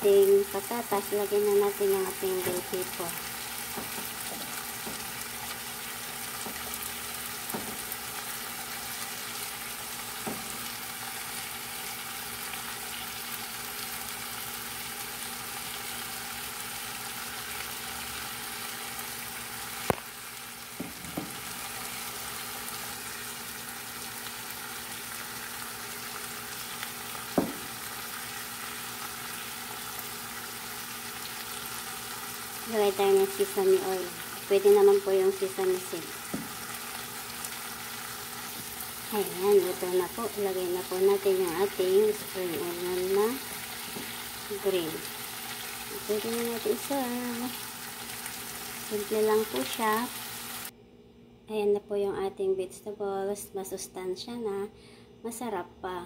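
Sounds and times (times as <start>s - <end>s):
vegetables sizzling in hot oil: 0.0s - 50.7s.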